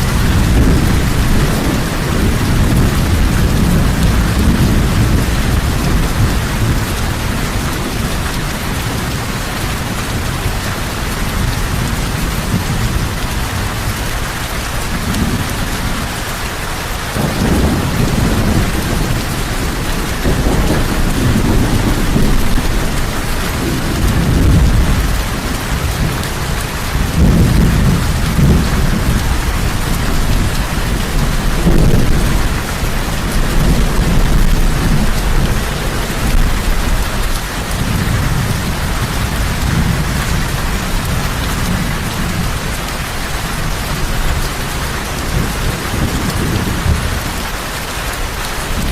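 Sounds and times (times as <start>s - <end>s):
low rumbles of thunder: 0.0s - 47.5s
heavy rain: 0.0s - 48.9s.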